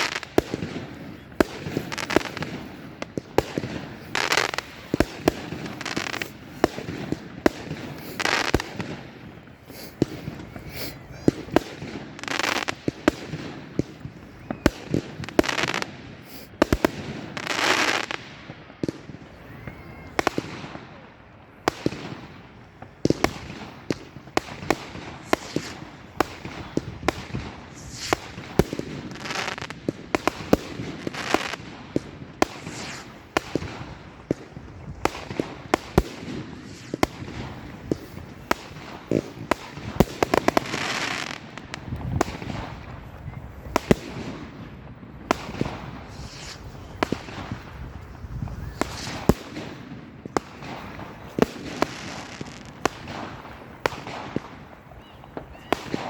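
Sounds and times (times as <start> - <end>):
fireworks hissing rush: 0.0 - 18.2, 21.6 - 44.6, 45.2 - 56.0
fireworks bangs and pops: 0.0 - 56.0.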